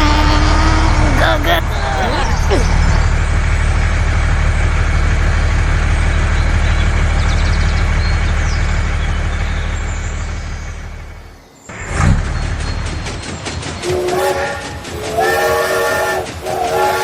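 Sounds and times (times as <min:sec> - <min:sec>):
heavy vehicle engine rumbling: 0:00.0 - 0:17.0.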